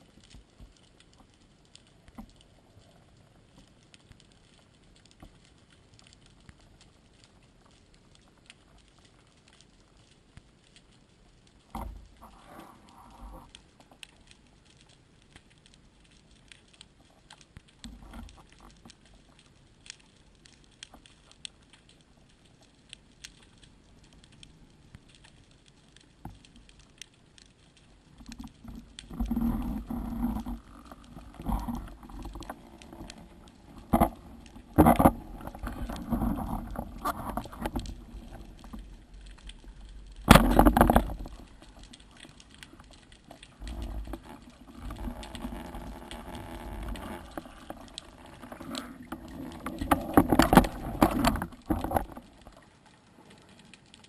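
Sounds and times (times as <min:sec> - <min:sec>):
faint underwater clicks: 0:00.0 - 0:54.0
rough underwater water noise: 0:00.0 - 0:54.0.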